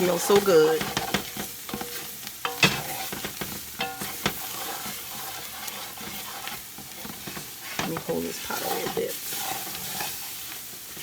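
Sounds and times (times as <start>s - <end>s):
vegetables sizzling in a pot: 0.0s - 11.0s
spoon scraping a pot: 0.3s - 11.0s.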